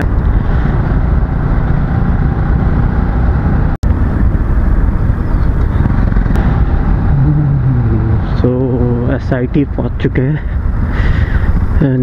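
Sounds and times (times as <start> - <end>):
motorcycle engine: 0.0 - 11.8
road rumble: 0.0 - 12.0
wind rushing: 0.0 - 12.0.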